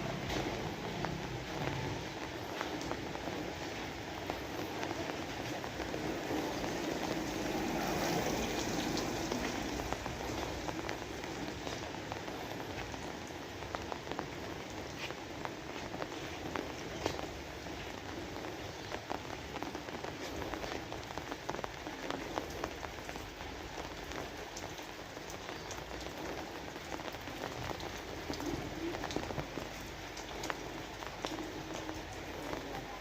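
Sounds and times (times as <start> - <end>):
raindrops ticking sharply: 0.0 - 33.0
steady rain falling: 0.0 - 33.0.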